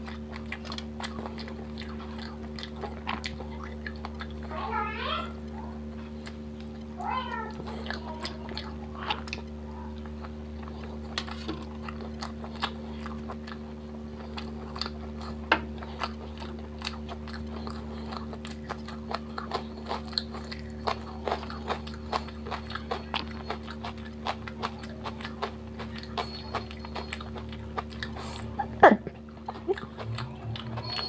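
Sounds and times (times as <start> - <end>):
close chewing with mouth smacks: 0.0 - 4.7, 5.3 - 31.0
steady low hum: 0.0 - 31.0.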